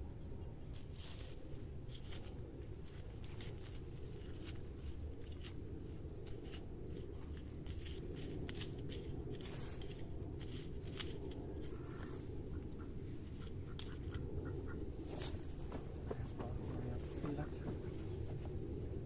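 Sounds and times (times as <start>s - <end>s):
steady low rumble: 0.0s - 19.0s
scraping of soil and plant litter: 0.6s - 14.2s, 15.0s - 18.4s.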